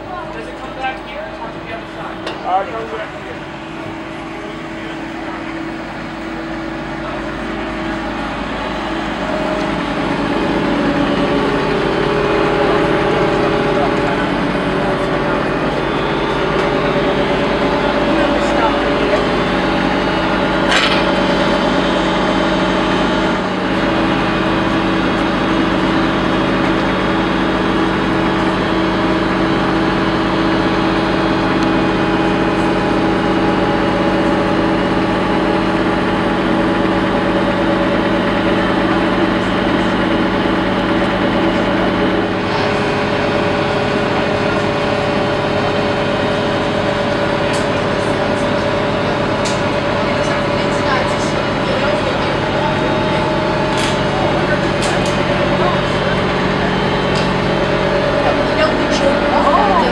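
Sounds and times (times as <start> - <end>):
boat diesel engine drone: 0.0 - 59.9.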